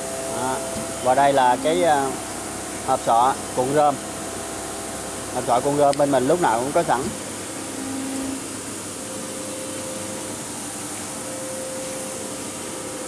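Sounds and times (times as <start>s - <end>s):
faint steady hum: 0.0s - 13.0s
steady hiss: 0.0s - 13.0s.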